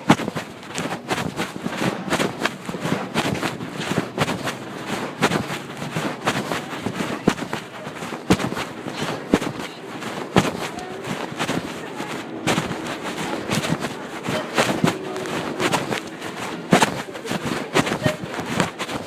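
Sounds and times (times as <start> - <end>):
store background hum: 0.0 - 19.0.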